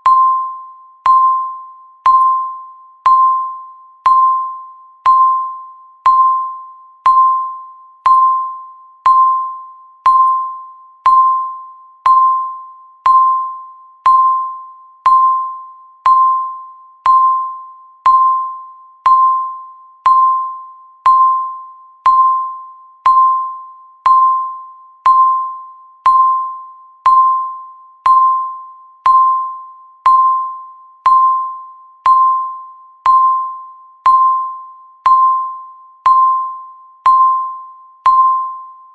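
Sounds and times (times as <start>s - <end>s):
timer electronic beeps: 0.0s - 38.9s.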